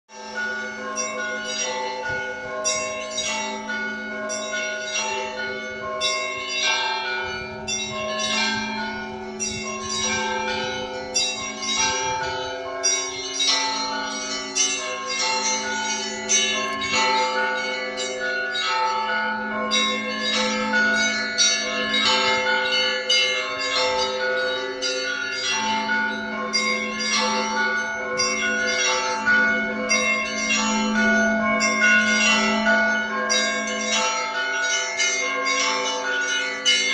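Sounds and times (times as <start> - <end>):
deep bell booming: 0.2 - 36.9.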